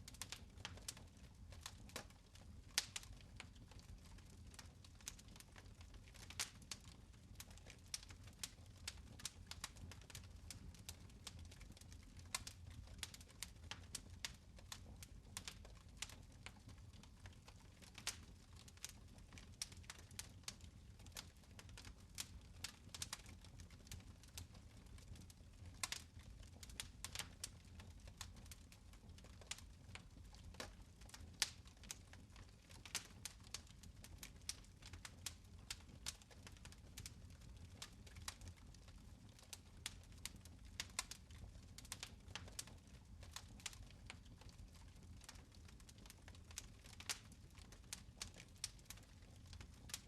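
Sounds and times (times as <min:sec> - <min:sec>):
fire crackling and popping: 0:00.0 - 0:50.0.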